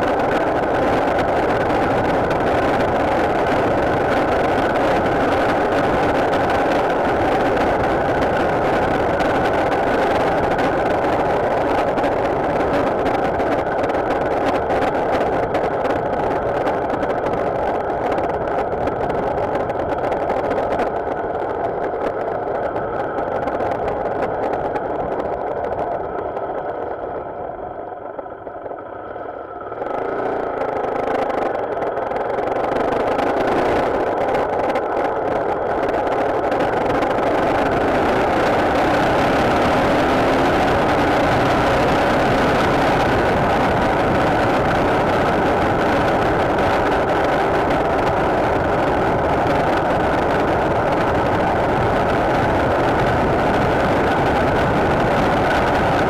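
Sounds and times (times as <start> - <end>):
wind noise: 0.0 - 28.2, 29.6 - 56.0
motorcycle engine: 0.0 - 56.0.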